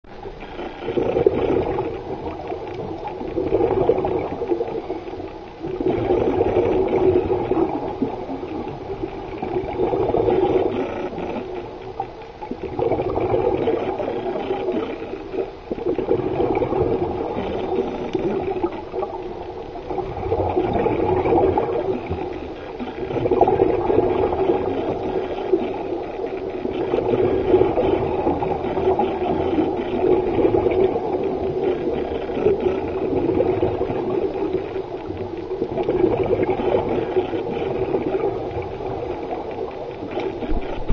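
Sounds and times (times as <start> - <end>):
underwater bubbles gurgling: 0.1 - 40.9.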